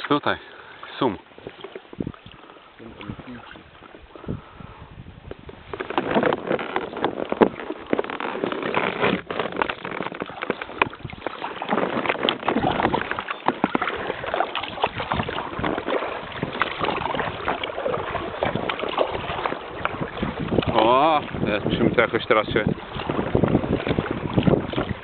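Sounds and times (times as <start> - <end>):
water rushing: 0.0 - 4.4, 5.6 - 25.0
paddle splashes and knocks: 0.8 - 25.0.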